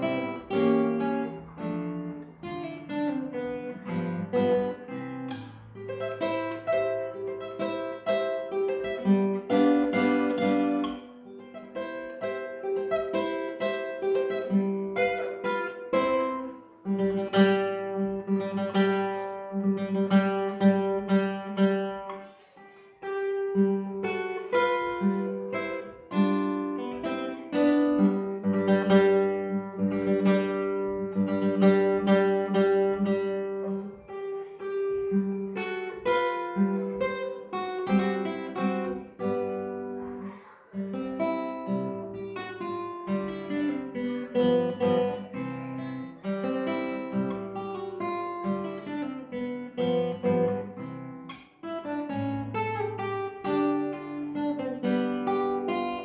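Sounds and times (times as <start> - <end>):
acoustic guitar waltz: 0.0 - 56.0.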